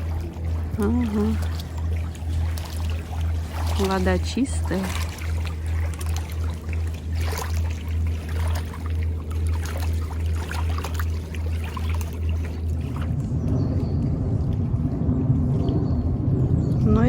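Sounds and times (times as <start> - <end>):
low pulsing hum: 0.0 - 17.0
low rumble: 0.0 - 17.0
small waves lapping: 0.0 - 17.0.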